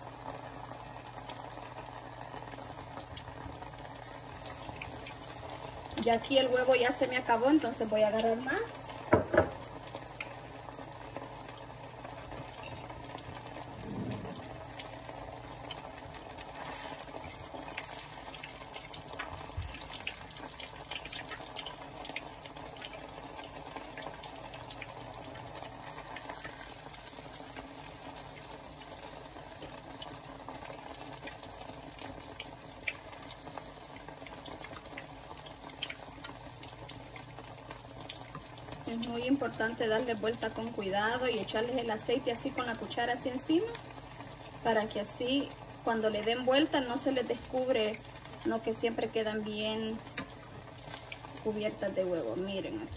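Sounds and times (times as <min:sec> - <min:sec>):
food sizzling in hot oil: 0:00.0 - 0:52.9.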